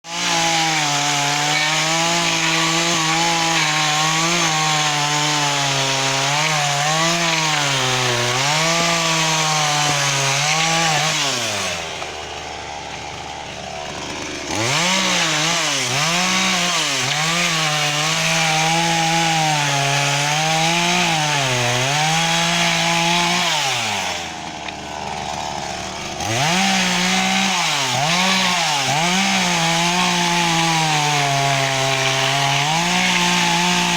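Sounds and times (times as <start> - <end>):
chainsaw cutting firewood: 0.0 - 33.9.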